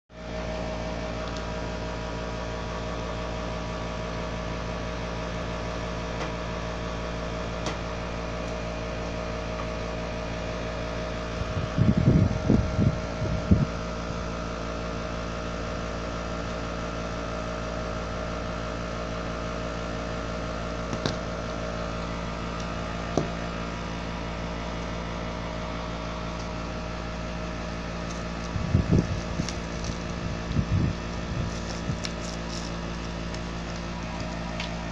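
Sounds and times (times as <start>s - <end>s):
steady appliance hum: 0.1s - 34.9s.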